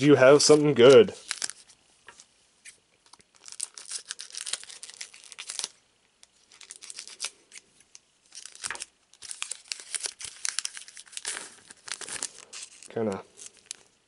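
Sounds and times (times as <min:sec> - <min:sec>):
foil wrapper crinkling: 0:00.5 - 0:02.3, 0:03.0 - 0:14.0.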